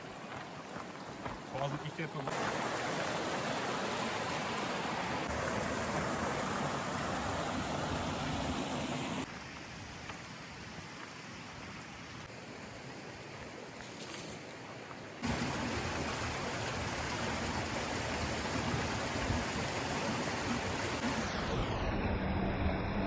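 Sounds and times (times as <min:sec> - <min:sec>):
mountain water rushing: 0:00.0 - 0:21.4.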